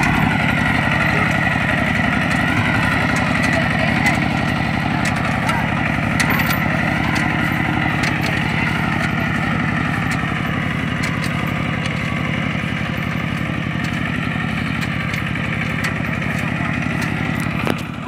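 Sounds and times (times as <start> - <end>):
diesel engine chugging: 0.0 - 18.0.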